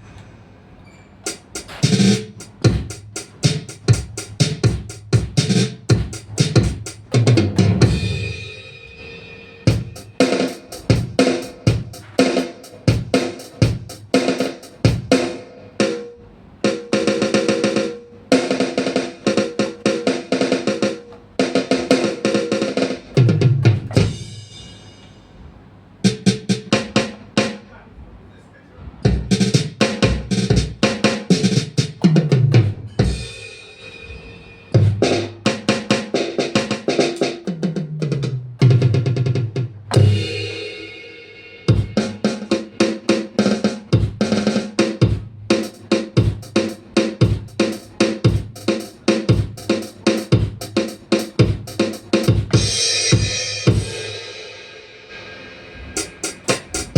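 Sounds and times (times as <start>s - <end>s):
electronic drum kit playing: 1.3s - 25.4s, 26.0s - 27.7s, 29.0s - 56.9s
pitched tom-like notes: 1.3s - 27.6s, 29.0s - 56.9s.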